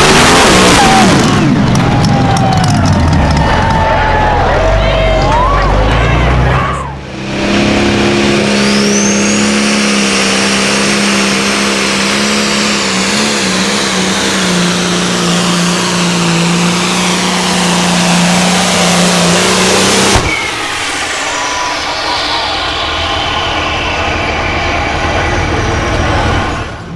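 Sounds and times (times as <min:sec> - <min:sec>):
tractor engine running hard: 0:00.0 - 0:26.9.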